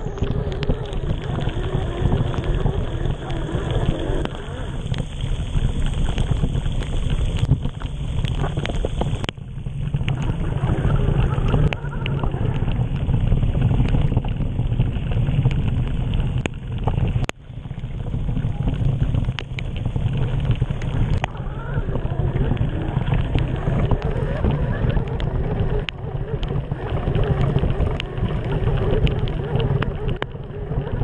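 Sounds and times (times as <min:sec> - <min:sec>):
wet bike tyres on trail: 0:00.0 - 0:31.0
wind rumble on microphone: 0:00.0 - 0:31.0.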